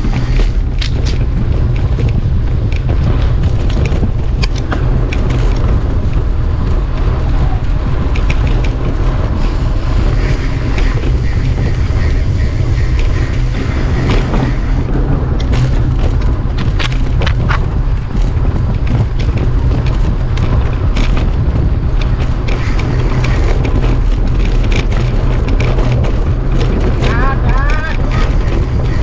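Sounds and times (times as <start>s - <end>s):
bike rattling over bumps: 0.0s - 29.0s
bike tyre noise on dirt: 0.0s - 29.0s
wind buffeting microphone: 0.0s - 29.0s.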